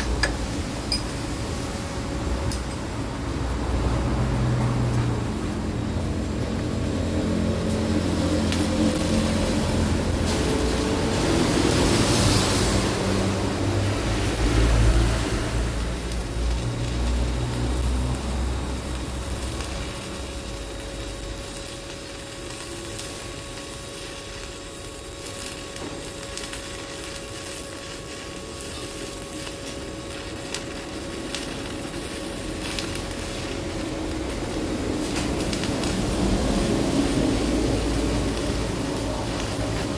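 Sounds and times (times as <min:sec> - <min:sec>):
welding arc crackling and sizzling: 0:00.0 - 0:39.9.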